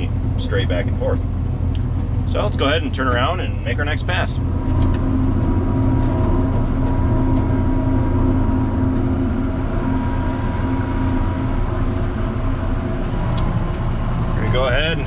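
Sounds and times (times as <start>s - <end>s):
tractor diesel engine drone: 0.0s - 15.0s
thin steady whine: 2.2s - 15.0s.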